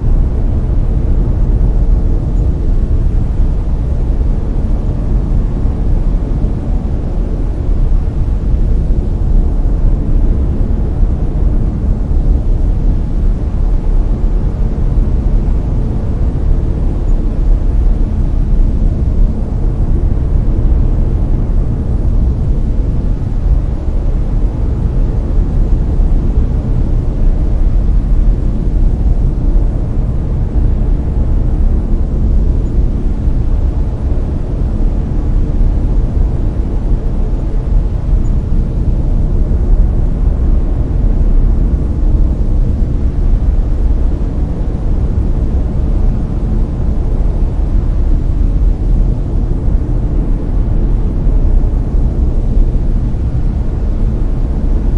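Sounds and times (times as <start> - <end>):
brown noise: 0.0 - 54.9.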